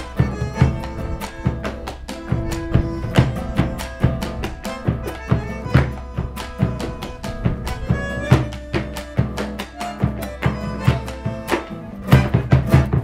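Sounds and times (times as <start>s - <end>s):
boots stamping on wooden board: 0.0s - 13.0s
folk music with strings: 0.0s - 13.0s.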